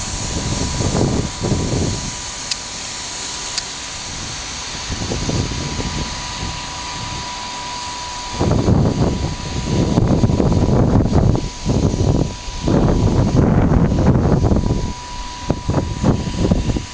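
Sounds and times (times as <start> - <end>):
jet engines running: 0.0 - 16.9
wind buffeting microphone: 0.0 - 16.9.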